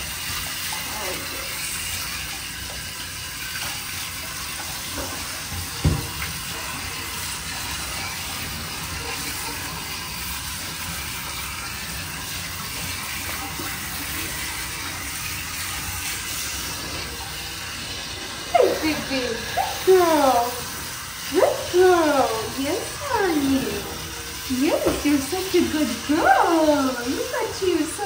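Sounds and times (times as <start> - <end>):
shower head spraying water: 0.0 - 28.0.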